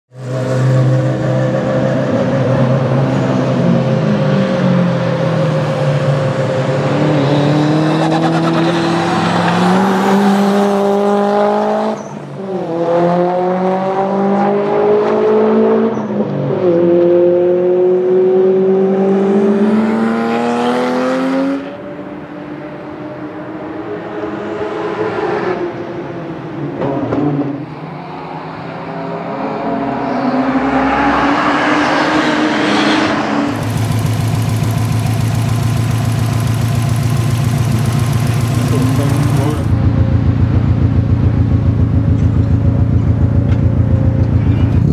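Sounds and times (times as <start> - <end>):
car engine under full throttle: 0.2 - 24.6, 31.2 - 44.9.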